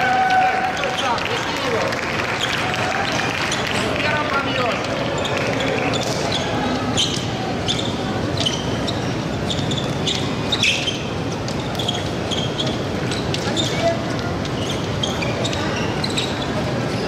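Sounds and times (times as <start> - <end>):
murmur of hall noise: 0.0 - 17.0
shoes squeaking on floor: 0.1 - 17.0.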